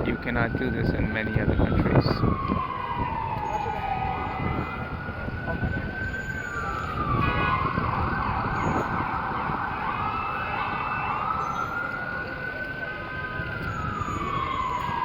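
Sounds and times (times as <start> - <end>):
city street noise: 0.0 - 15.0
emergency vehicle siren wailing: 0.0 - 15.0.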